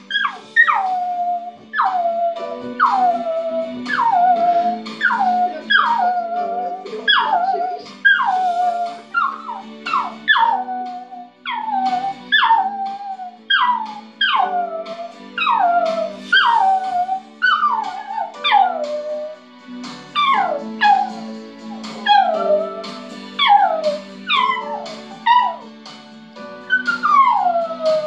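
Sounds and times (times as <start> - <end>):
dog howling: 0.0 - 19.4, 20.2 - 25.7, 26.7 - 28.0
television music tones: 0.0 - 28.0.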